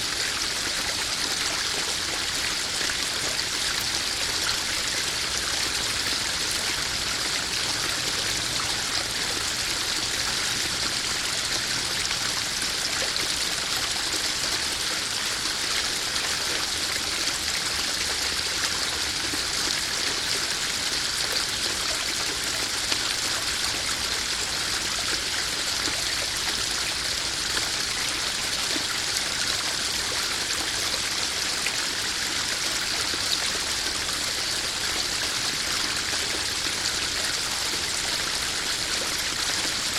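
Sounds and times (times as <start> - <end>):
small waterfall splashing into pond: 0.0 - 39.9.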